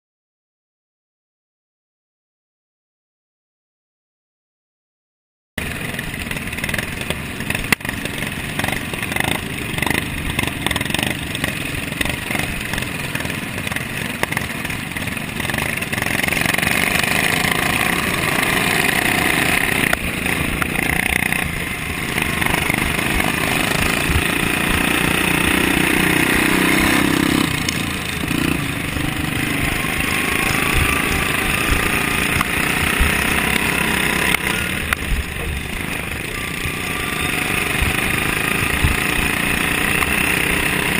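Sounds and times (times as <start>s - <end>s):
lawn mower engine racing: 5.6s - 40.9s
other mowers running nearby: 5.6s - 40.9s.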